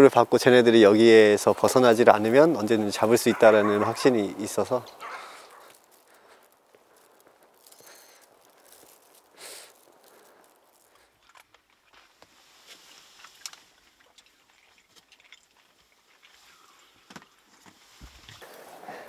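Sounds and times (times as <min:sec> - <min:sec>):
faint clicks and rustles: 0:01.4 - 0:18.8
crunch: 0:01.6 - 0:18.5.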